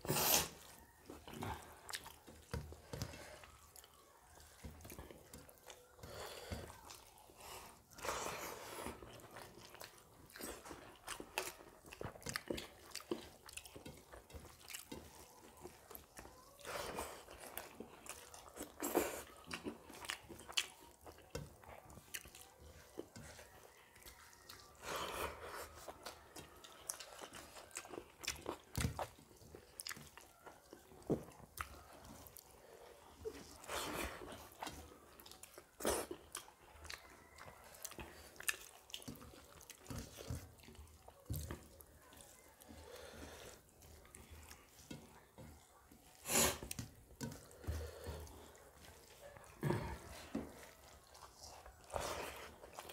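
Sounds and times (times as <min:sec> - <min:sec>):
wet chewing and mouth smacking: 0:00.0 - 0:52.9.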